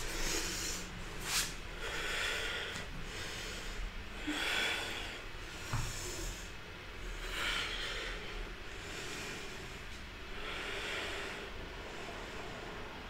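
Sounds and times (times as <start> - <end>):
woman breathing: 0.0 - 13.0.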